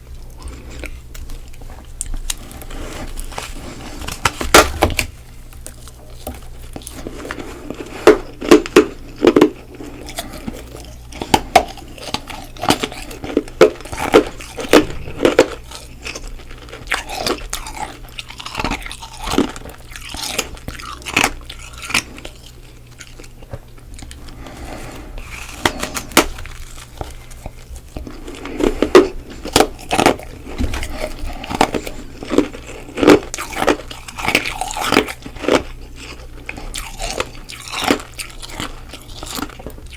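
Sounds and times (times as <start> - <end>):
chewing: 0.0 - 4.4, 5.5 - 39.9.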